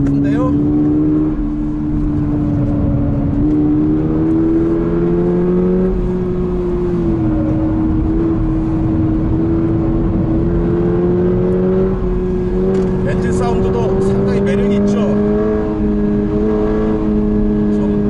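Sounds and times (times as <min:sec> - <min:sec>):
car engine revving in cabin: 0:00.0 - 0:18.0
road and tyre noise: 0:00.0 - 0:18.0.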